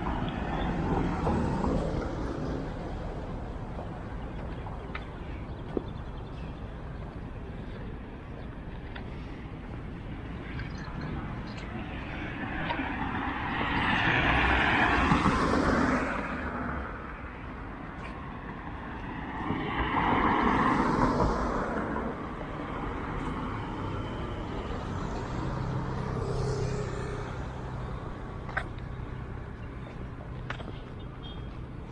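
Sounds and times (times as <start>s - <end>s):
vehicles passing: 0.0s - 31.9s.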